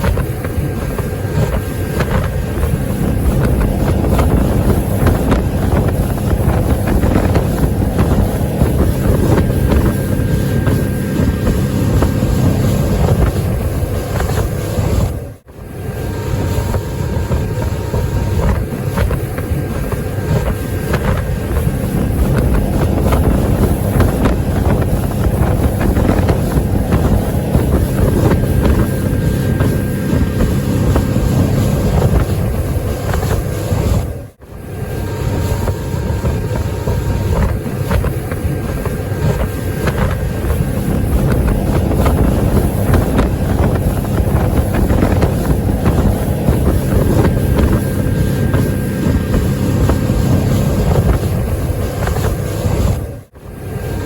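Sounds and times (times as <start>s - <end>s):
motorboat engine: 0.0s - 54.0s
water rushing: 0.0s - 54.0s
wind buffeting microphone: 0.0s - 54.0s.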